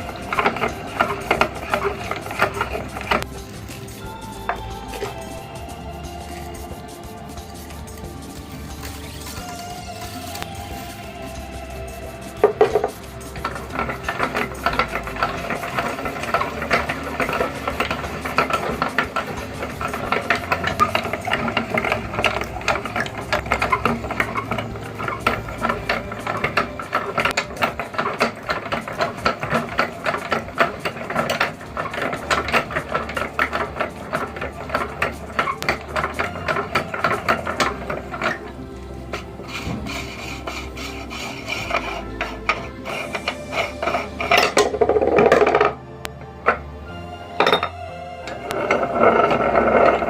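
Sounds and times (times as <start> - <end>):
meat grinder clattering: 0.0 - 11.0, 12.0 - 45.8.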